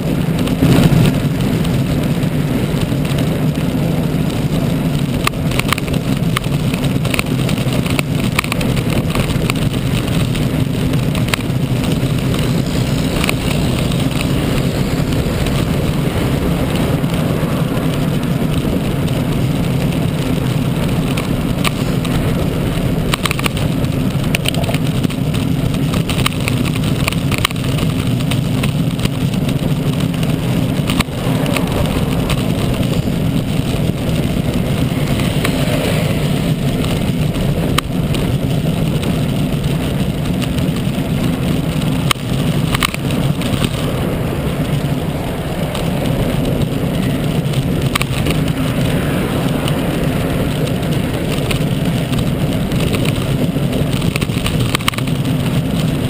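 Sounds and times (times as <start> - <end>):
wind rushing: 0.0 - 4.4, 8.6 - 26.0, 26.6 - 53.9
bicycle road noise: 0.0 - 56.0
car traffic passing: 0.0 - 56.0.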